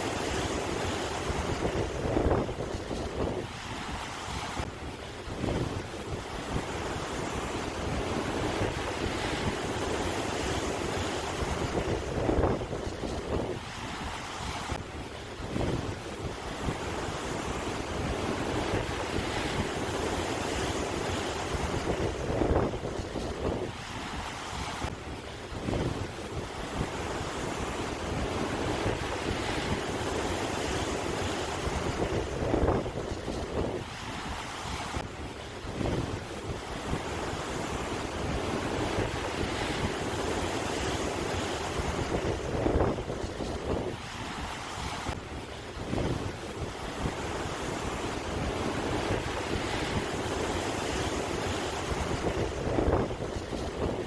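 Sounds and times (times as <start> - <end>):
sea waves washing on shore: 0.0 - 54.0
wind buffeting microphone: 0.0 - 54.0.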